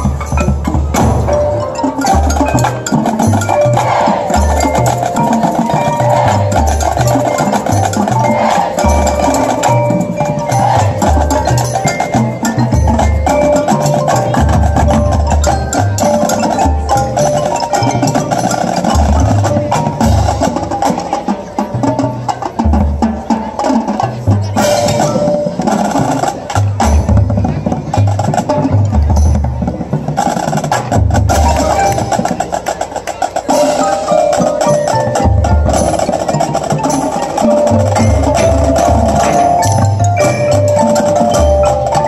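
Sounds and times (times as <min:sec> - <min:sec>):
mallet percussion: 0:00.0 - 0:42.0
marching band playing: 0:00.0 - 0:42.0.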